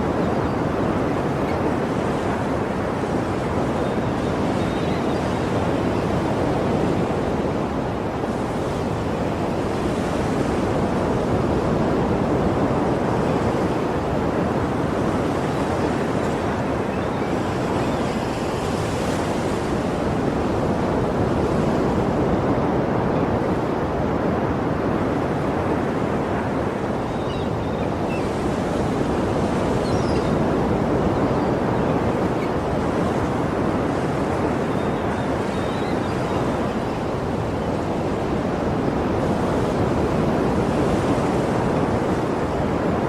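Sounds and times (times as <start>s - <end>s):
sea waves washing on shore: 0.0s - 43.0s.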